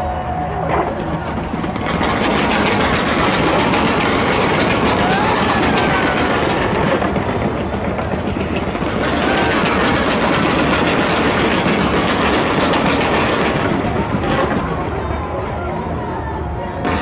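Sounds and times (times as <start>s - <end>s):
fireworks crackling and popping: 0.3s - 17.0s.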